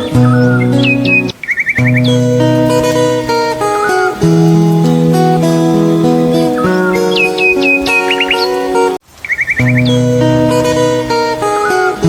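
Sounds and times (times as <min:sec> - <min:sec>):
plucked guitar melody: 0:00.0 - 0:09.0, 0:09.6 - 0:12.0.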